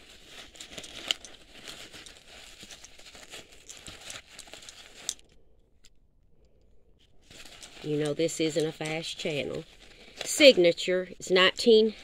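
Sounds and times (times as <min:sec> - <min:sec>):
nylon fabric rustling: 0:00.0 - 0:05.2, 0:07.2 - 0:12.0.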